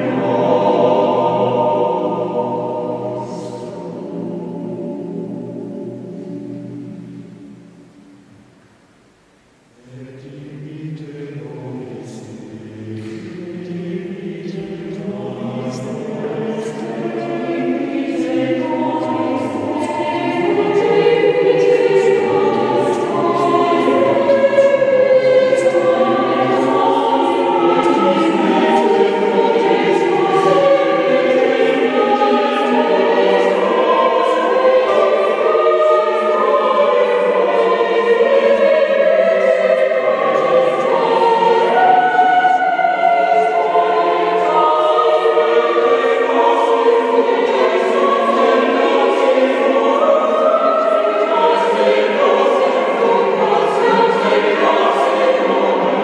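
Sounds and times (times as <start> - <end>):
choir singing in parts: 0.0 - 8.4, 9.6 - 56.0.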